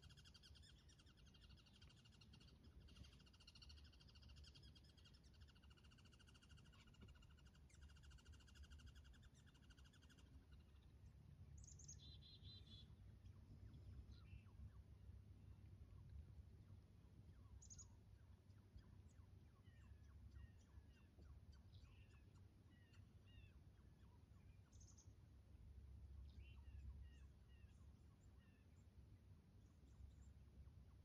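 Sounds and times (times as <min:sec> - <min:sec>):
faint small birds chirping: 0:00.0 - 0:31.0
low steady rumble: 0:00.0 - 0:31.0.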